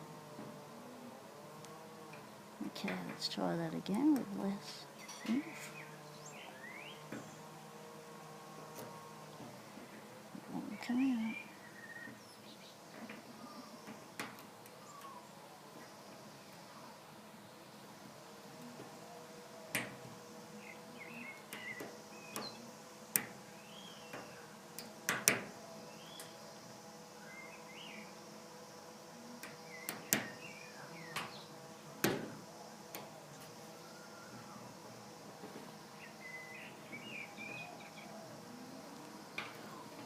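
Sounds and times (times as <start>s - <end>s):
faint steady hum: 0.0s - 40.0s
small birds chirping: 1.6s - 40.0s.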